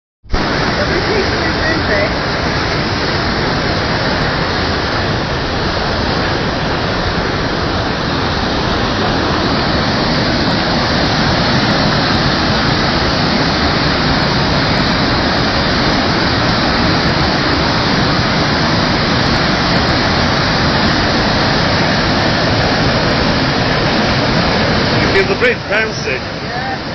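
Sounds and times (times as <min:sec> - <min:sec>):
floodwater rushing over falls: 0:00.3 - 0:26.9.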